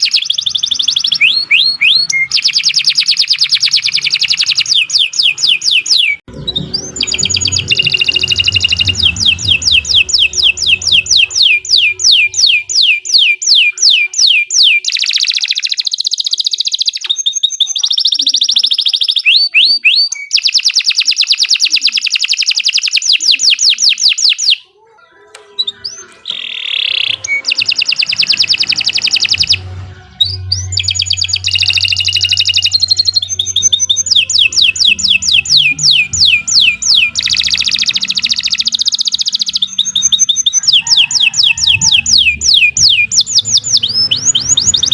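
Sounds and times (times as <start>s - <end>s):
canary singing rapid trills: 0.0s - 44.9s.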